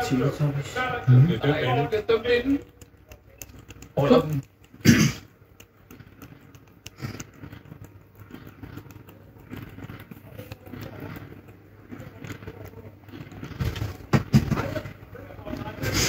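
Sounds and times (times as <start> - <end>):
cat licking and chewing: 0.0 - 16.0.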